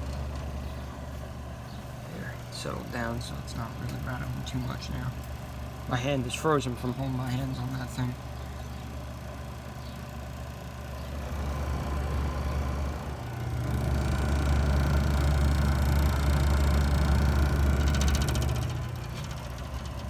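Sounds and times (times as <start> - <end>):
compressor humming: 0.0 - 20.0.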